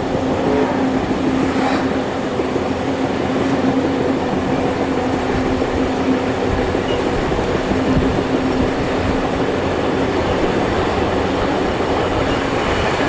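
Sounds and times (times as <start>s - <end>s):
train carriages rumbling on rails: 0.0s - 13.0s.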